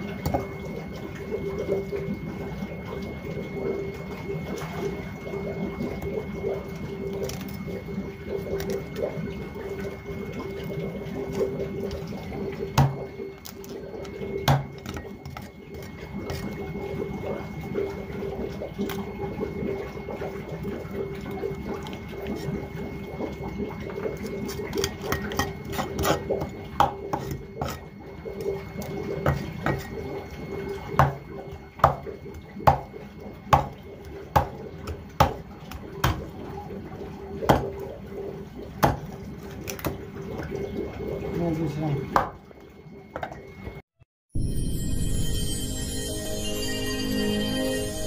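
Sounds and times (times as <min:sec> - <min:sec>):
steady hum: 0:00.0 - 0:43.8.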